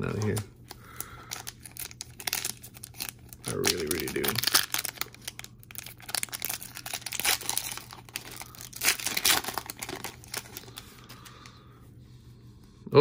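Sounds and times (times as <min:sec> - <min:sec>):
wrapper crinkling and tearing: 0:00.0 - 0:11.2.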